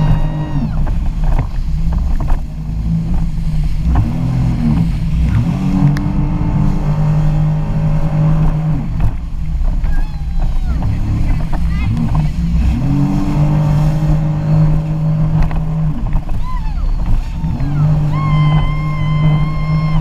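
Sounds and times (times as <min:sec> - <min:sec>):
jet ski engine running: 0:00.0 - 0:20.0
water noise: 0:00.0 - 0:20.0
wind noise: 0:00.0 - 0:20.0.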